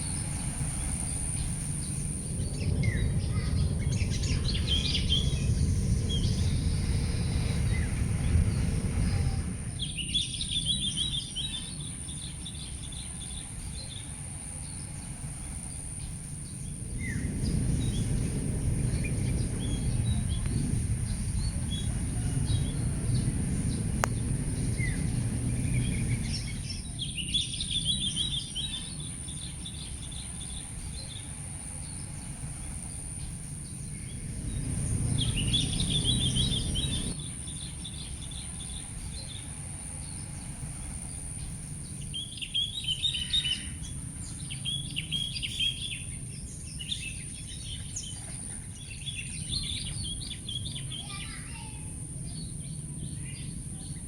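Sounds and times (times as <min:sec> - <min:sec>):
low rumble: 0:00.0 - 0:54.0
small birds chirping: 0:00.0 - 0:54.0
steady high thin whine: 0:00.0 - 0:54.0.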